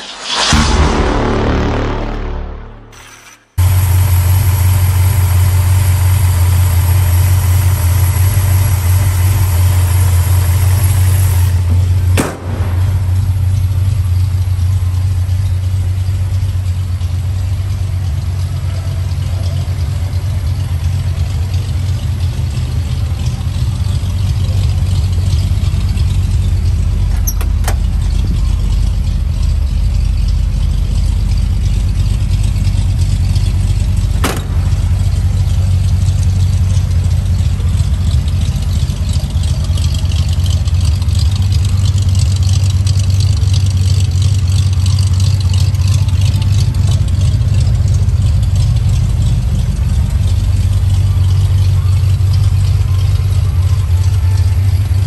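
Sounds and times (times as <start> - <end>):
car engine idling: 3.6 - 55.0.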